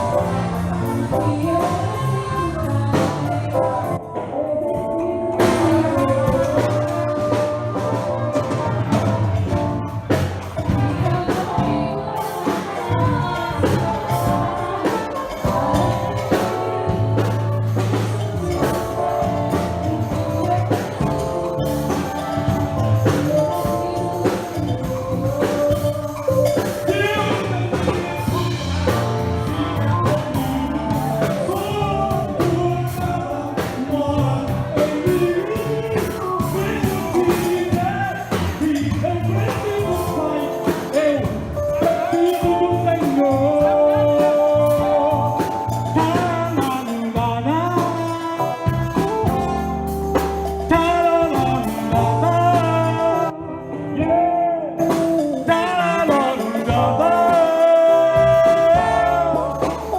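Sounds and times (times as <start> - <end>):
steady drum beat: 0.0 - 4.0, 4.7 - 53.3
band music with singing: 0.0 - 59.9.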